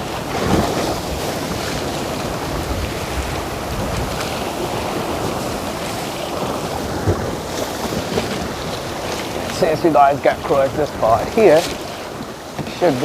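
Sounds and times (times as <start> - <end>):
sea waves washing: 0.0 - 13.0
wind noise on microphone: 0.0 - 13.0.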